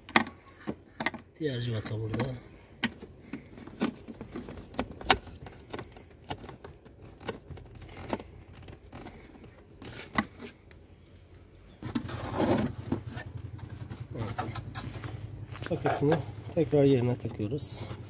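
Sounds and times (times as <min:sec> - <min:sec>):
plastic lamp unit scraping: 0:00.0 - 0:18.0.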